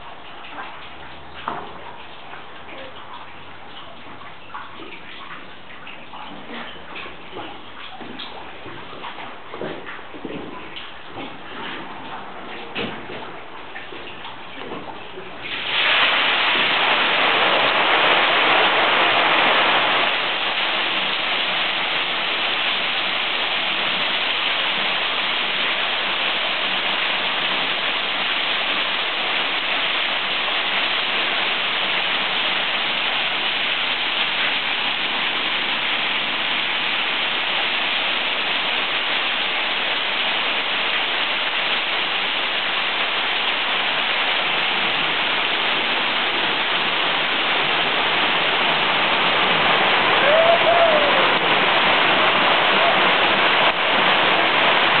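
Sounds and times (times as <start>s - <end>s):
water gushing over waterwheel: 0.0s - 55.0s.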